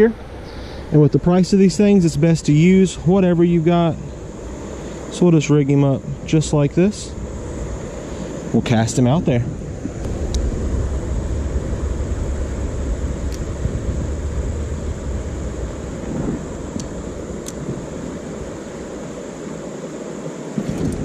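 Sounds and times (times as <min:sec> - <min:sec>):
wind buffeting microphone: 0:01.3 - 0:19.2.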